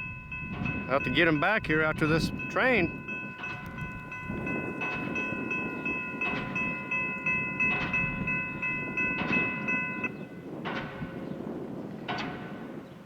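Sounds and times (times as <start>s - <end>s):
bell ringing: 0.0s - 10.6s
freight train rumbling: 0.0s - 13.0s.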